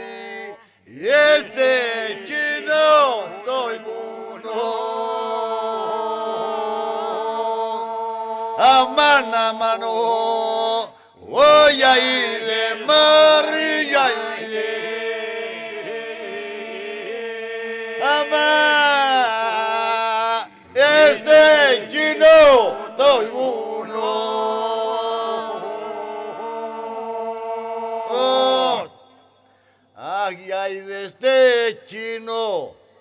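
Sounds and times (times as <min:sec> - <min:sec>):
group singing polyphonic song: 0:00.0 - 0:29.5.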